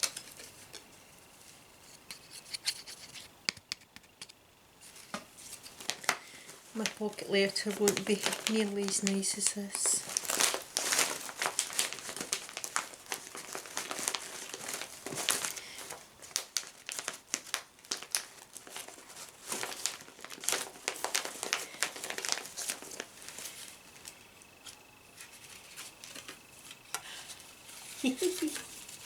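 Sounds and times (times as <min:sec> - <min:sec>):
gift packaging crinkling: 0:04.8 - 0:29.0.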